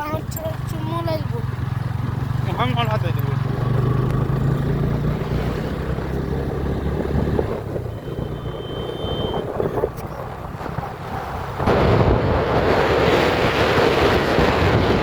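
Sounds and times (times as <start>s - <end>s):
motorcycle engine humming: 0.0s - 15.0s.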